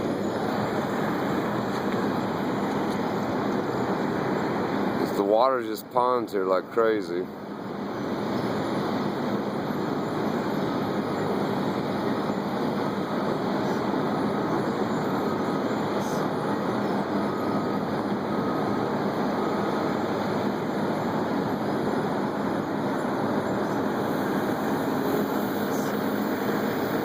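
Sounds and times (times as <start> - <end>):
paving machinery grinding rumble: 0.0 - 27.0.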